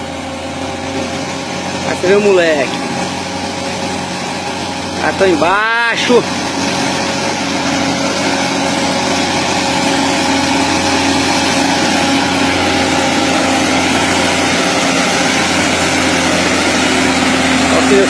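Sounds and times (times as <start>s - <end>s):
diesel truck engine under load: 0.0s - 18.0s.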